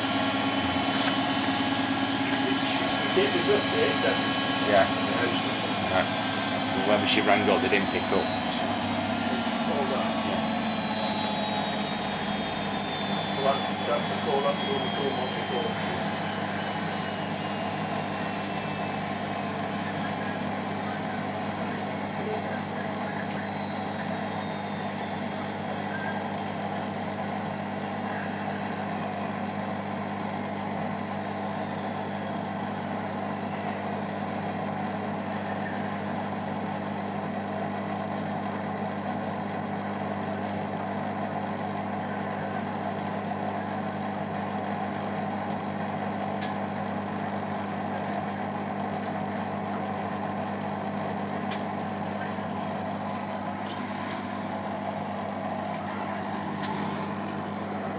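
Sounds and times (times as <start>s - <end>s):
high whine: 0.0s - 57.9s
washing machine spinning: 0.0s - 57.9s.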